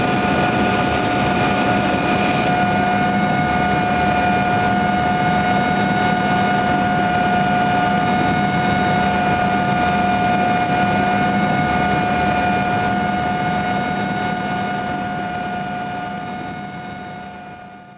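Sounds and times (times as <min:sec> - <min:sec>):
aircraft engine drone in cabin: 0:00.0 - 0:17.9.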